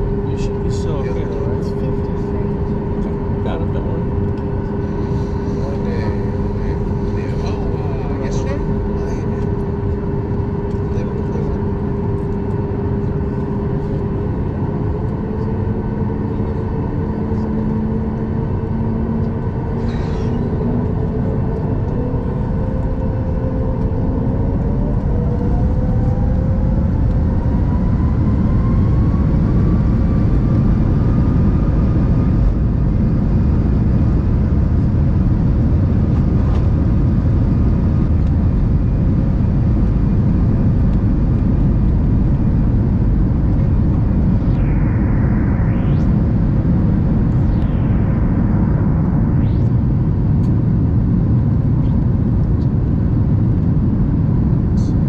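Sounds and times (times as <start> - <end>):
takeoff roll rumble: 0.0 - 54.9
jet engine whine: 0.0 - 55.0.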